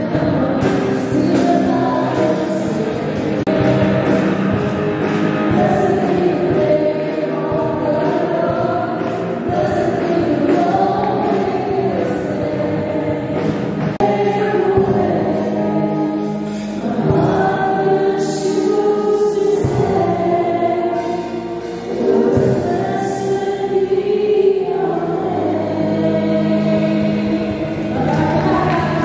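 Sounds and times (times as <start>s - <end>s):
group singing worship song: 0.0s - 29.0s.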